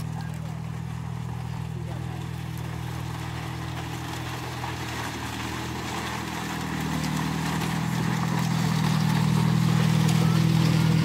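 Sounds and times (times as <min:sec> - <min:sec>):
bamboo deck crackling under tyres: 0:00.0 - 0:11.0
car engine hum: 0:00.0 - 0:11.0.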